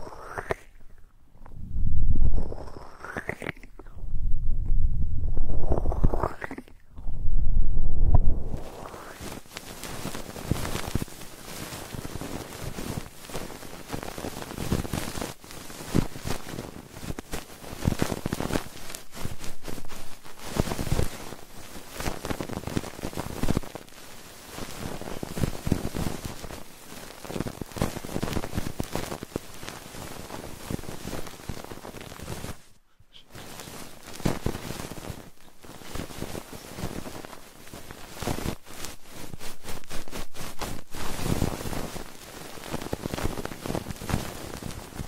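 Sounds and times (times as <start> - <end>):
scratchy pops: 0.0 - 1.6, 2.3 - 4.0, 5.4 - 6.9, 8.6 - 45.0
close crackling and rustling: 8.0 - 45.0.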